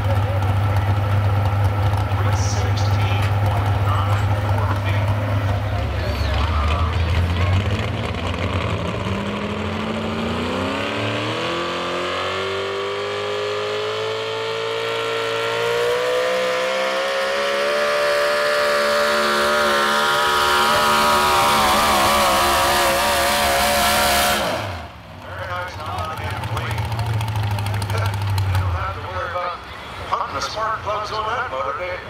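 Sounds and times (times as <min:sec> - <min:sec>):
supercharged truck engine revving: 0:00.0 - 0:31.4.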